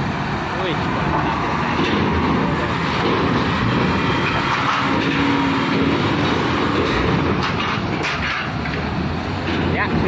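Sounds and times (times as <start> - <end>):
diesel truck engine passing: 0.0 - 10.0.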